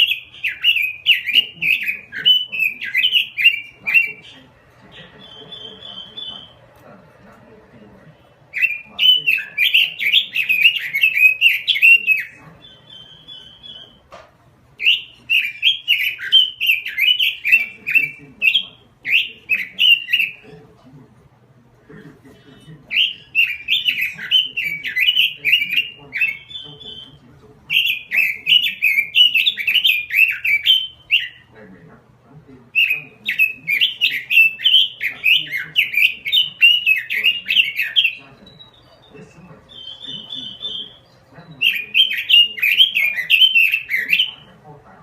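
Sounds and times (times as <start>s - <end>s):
bird warbling song: 0.0s - 14.2s, 14.8s - 20.7s, 22.3s - 31.8s, 32.5s - 45.0s.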